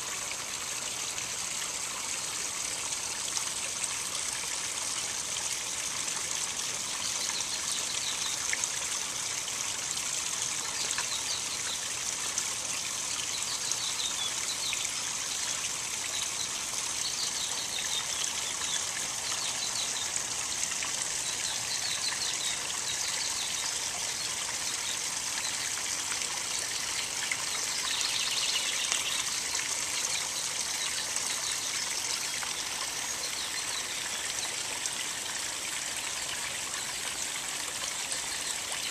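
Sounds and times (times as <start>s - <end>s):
small waterfalls splashing: 0.0s - 38.9s.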